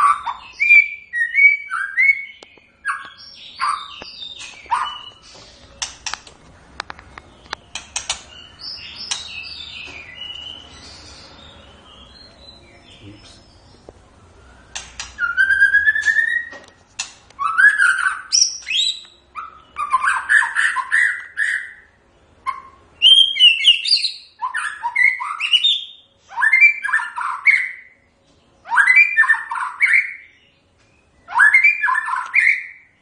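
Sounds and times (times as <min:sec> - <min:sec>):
bird singing whistles and chirps: 0:00.0 - 0:05.9, 0:07.0 - 0:13.8, 0:14.4 - 0:16.7, 0:17.4 - 0:28.0, 0:28.6 - 0:33.0.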